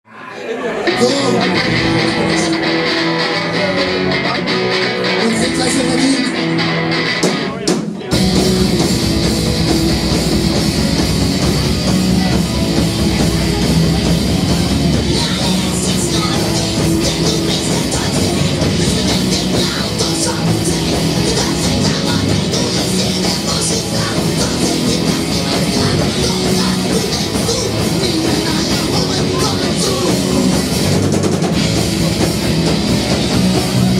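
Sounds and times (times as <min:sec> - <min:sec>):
rock band playing live: 0:00.6 - 0:33.9.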